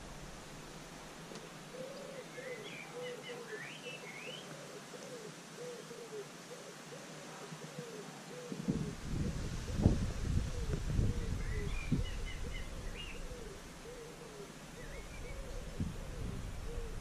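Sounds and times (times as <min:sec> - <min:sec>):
pigeon cooing: 0:01.7 - 0:03.6, 0:04.3 - 0:17.0.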